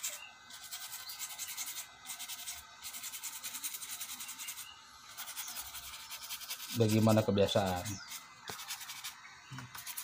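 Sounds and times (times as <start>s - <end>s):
small brush scrubbing: 0.0s - 10.0s.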